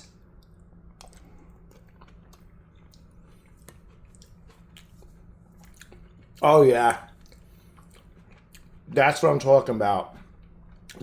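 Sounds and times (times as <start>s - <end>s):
chewing food: 0.0s - 9.5s, 10.1s - 11.0s
steady low hum: 0.0s - 11.0s.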